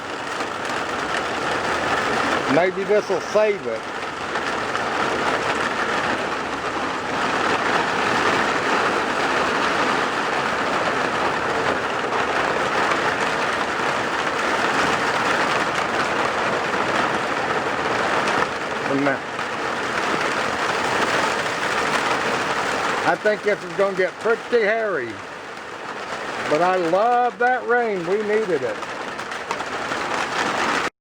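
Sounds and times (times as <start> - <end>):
heavy rain: 0.0 - 30.9.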